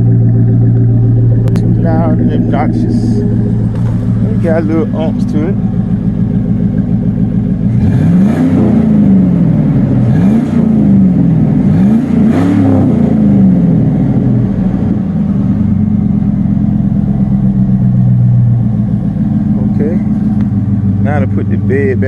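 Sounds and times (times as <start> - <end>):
pickup truck engine revving: 0.0 - 22.0.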